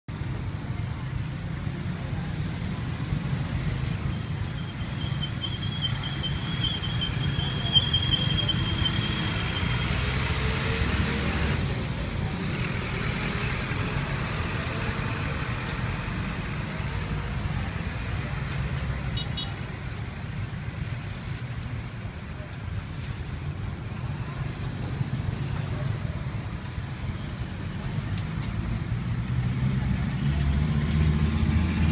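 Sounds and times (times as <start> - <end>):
street traffic rumble: 0.1 - 31.9.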